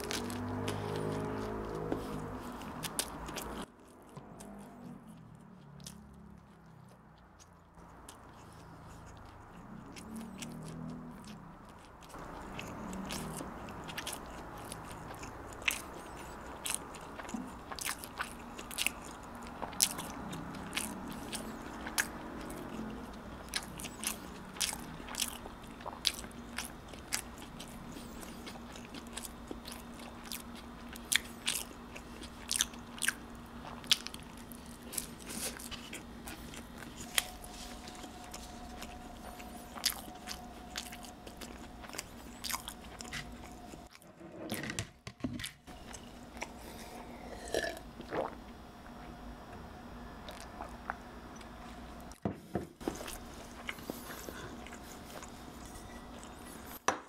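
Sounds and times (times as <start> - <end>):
chewing crisp bread: 0.0 - 44.0, 45.6 - 52.2, 52.8 - 56.8.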